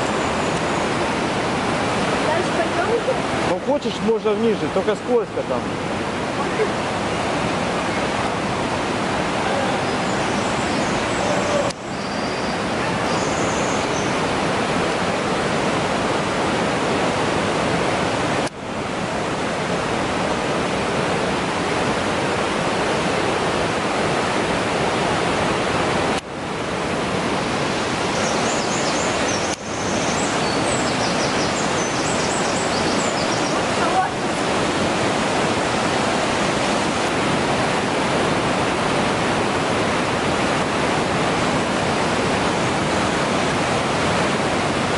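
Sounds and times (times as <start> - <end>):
whitewater rushing: 0.0 - 44.9.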